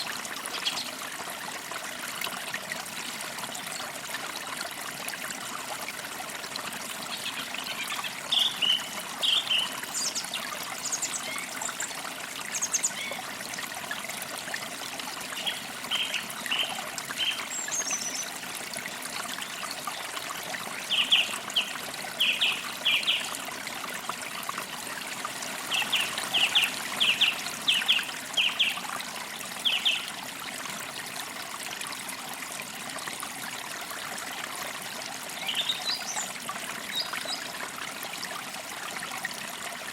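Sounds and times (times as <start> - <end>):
forest creek trickling: 0.0 - 39.9.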